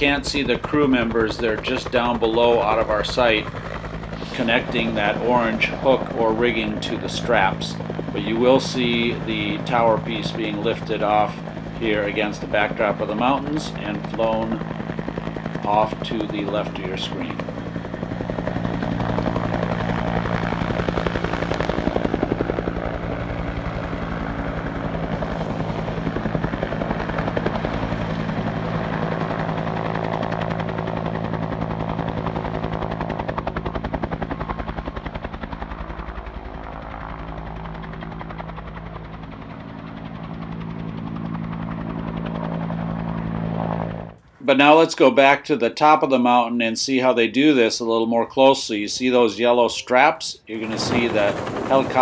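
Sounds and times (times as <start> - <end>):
helicopter engine drone: 0.0 - 52.0
helicopter rotor beating: 0.0 - 52.0.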